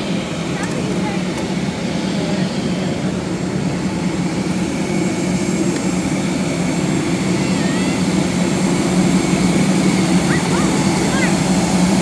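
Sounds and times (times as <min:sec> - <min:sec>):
jet aircraft drone: 0:00.0 - 0:12.0.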